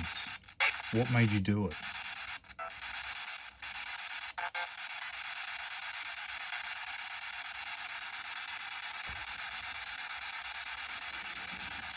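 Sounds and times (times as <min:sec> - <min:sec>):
radio static hiss: 0:00.0 - 0:11.9.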